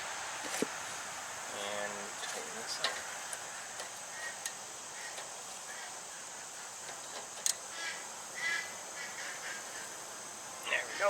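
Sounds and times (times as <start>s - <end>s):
steady high-pitched hiss: 0.0s - 11.0s.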